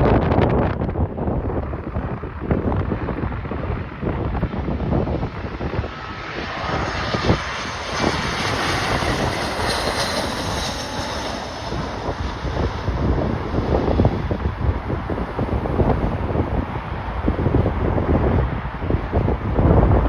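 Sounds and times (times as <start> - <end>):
jet airliner engines passing: 0.0 - 20.0
wind buffeting microphone: 0.0 - 20.0.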